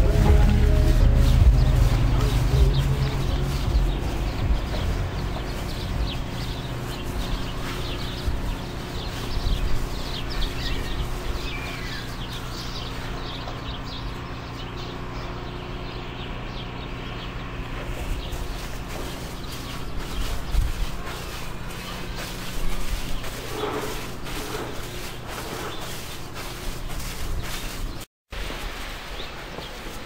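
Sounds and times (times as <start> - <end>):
footsteps crunching through snow: 0.0 - 15.6, 16.6 - 30.0
steady low hum: 0.0 - 28.0.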